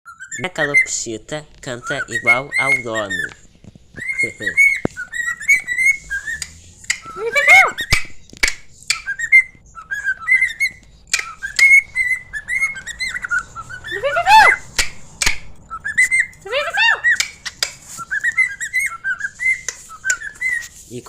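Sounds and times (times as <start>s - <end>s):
cockatiel whistling: 1.8s - 8.1s, 8.8s - 15.0s, 15.6s - 20.8s.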